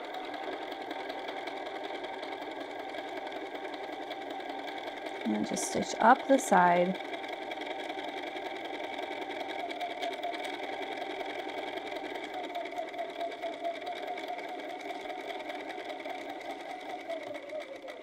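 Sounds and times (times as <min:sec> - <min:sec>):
sewing machine running: 0:00.0 - 0:18.0.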